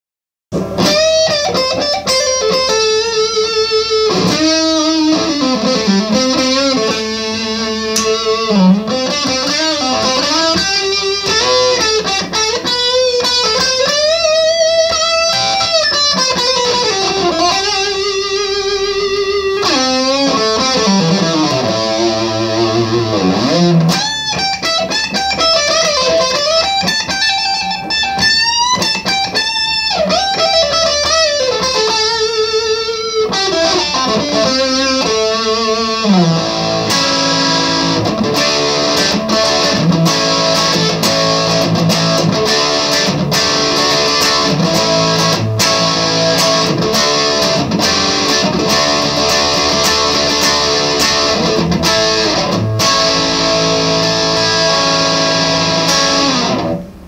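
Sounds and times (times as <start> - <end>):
electric guitar lead playing: 0.5 - 57.0.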